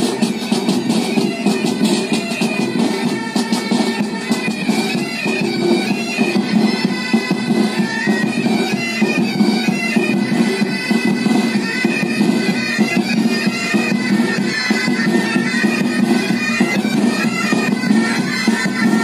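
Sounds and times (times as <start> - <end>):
bagpipes playing: 0.0 - 19.0
pipe band drums: 0.0 - 19.0.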